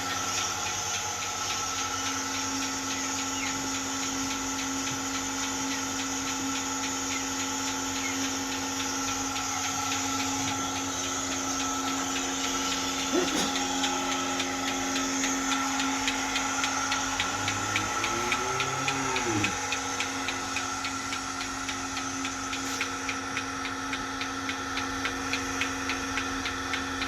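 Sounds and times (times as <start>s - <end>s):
milking machine pulsation ticks: 0.0s - 27.0s
vacuum pump hum: 0.0s - 27.0s.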